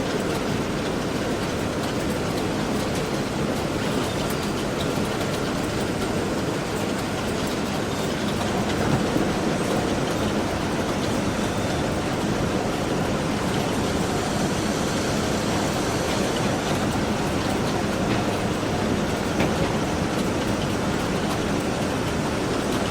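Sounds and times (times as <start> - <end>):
letter-sorting machine running: 0.0 - 22.9.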